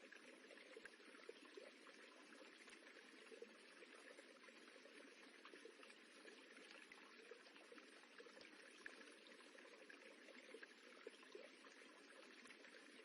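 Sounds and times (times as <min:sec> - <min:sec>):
running water rippling: 0:00.0 - 0:13.0.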